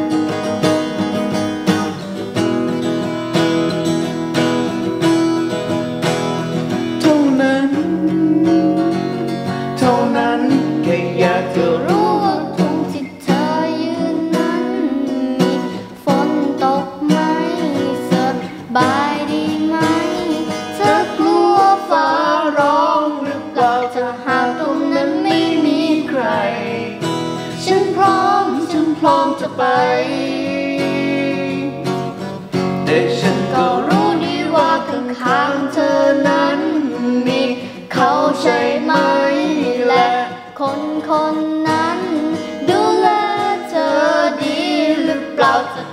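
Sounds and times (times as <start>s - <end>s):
acoustic guitar strummed and picked: 0.0s - 45.9s
girl singing a slow song: 6.9s - 31.9s, 32.8s - 45.9s.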